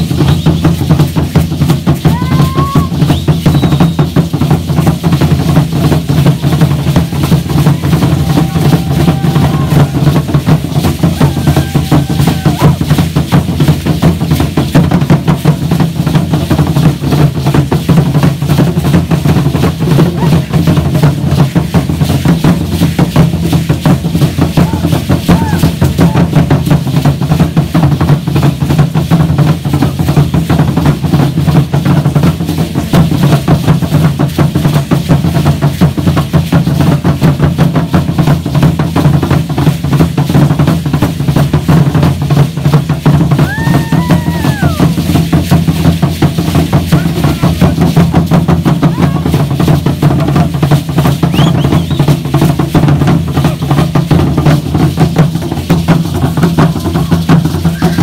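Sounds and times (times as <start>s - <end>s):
drums beating dance rhythm: 0.0s - 58.0s.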